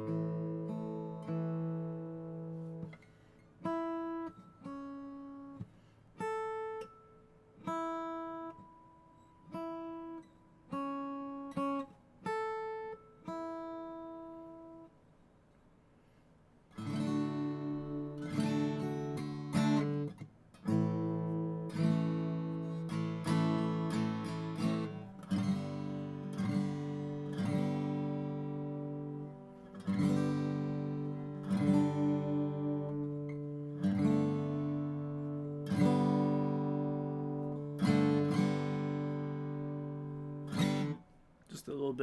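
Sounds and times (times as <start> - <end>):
acoustic guitar strummed chords: 0.0 - 15.0, 16.7 - 42.0
acoustic guitar picked notes: 0.0 - 15.1, 16.7 - 42.0.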